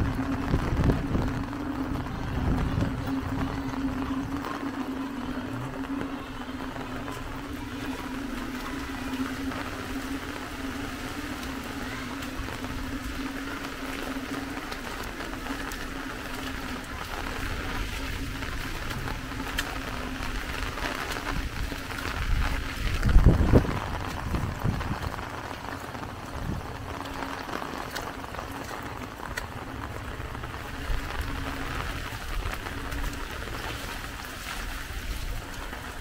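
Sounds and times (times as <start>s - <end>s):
motor hum: 0.0s - 36.0s.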